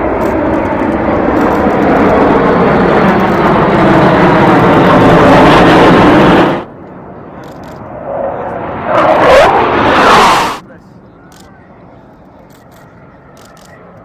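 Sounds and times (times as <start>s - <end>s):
aircraft engine passing low: 0.0s - 14.0s.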